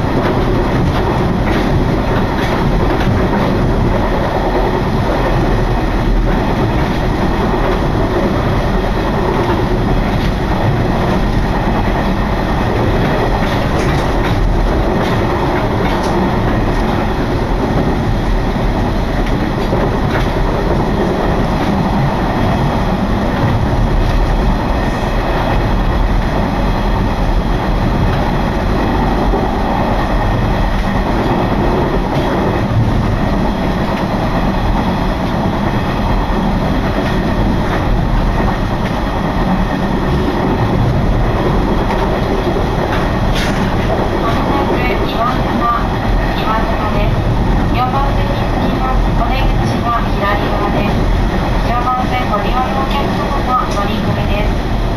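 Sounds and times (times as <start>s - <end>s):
train wheels rumbling on rails: 0.0s - 54.9s
wind blowing across microphone: 0.0s - 54.9s.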